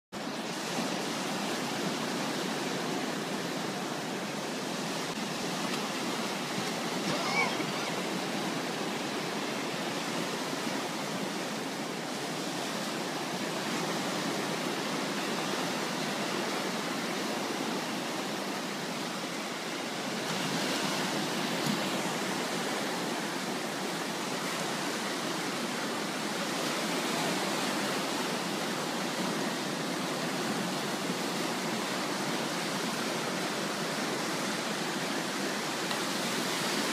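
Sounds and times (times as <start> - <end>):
small waves breaking: 0.2 - 36.9.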